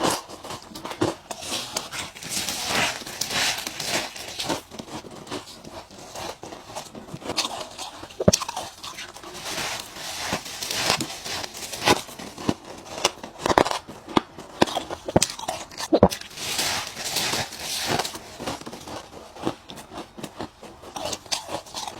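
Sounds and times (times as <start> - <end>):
ice crunching between teeth: 0.0 - 21.9.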